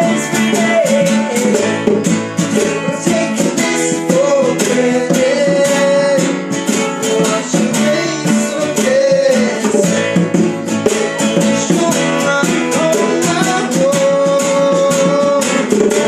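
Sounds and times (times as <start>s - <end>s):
acoustic guitars strumming: 0.0s - 16.0s
man singing: 0.0s - 16.0s.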